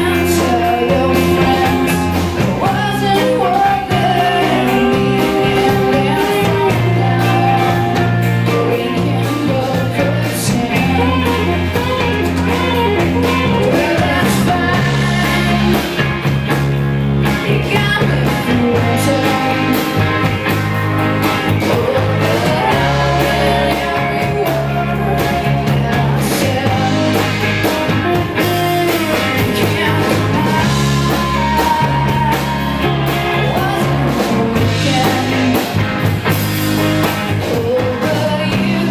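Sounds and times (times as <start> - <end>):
person singing: 0.0 - 16.1, 17.3 - 20.6, 21.2 - 36.0, 37.2 - 38.9
bass and drums: 0.0 - 38.9
electric guitars: 0.0 - 38.9.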